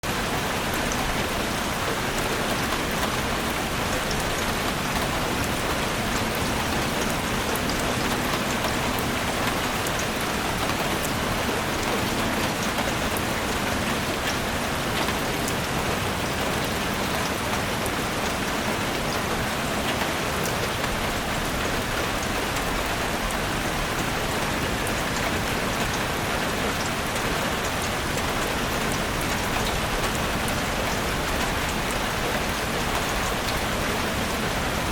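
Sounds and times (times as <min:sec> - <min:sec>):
rain falling in a forest: 0:00.0 - 0:34.9.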